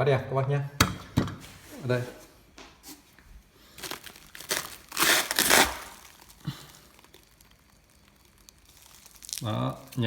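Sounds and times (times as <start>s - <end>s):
plastic crinkling and rustling: 1.4s - 10.0s.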